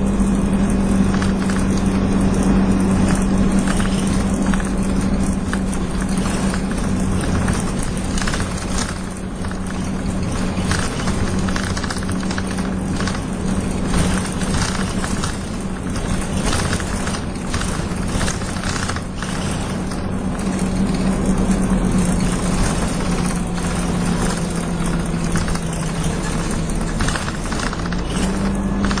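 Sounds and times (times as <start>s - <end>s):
bus engine idling: 0.0s - 29.0s
loose fittings rattling: 0.0s - 29.0s.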